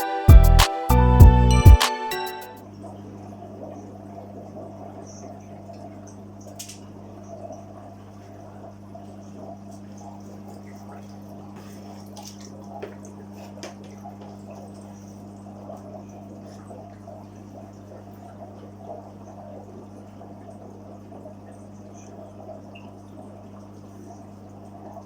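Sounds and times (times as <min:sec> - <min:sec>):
low electrical hum: 0:02.6 - 0:25.0
water trickling and dripping: 0:03.6 - 0:25.0
small clicks and splashes: 0:03.7 - 0:25.0.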